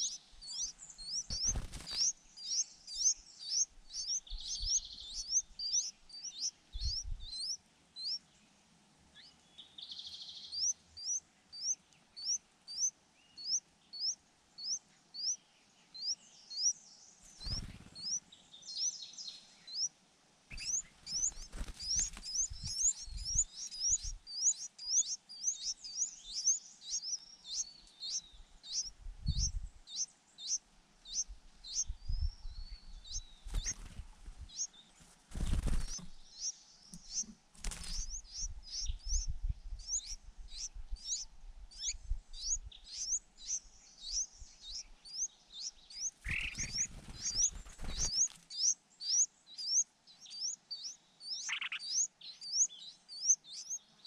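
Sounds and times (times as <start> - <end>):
nestlings chirping high: 0.0 - 8.2, 16.0 - 18.2, 20.5 - 53.8.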